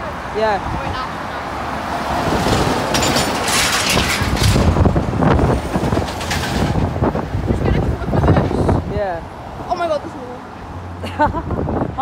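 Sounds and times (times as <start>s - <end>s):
heavy truck passing: 0.0s - 12.0s.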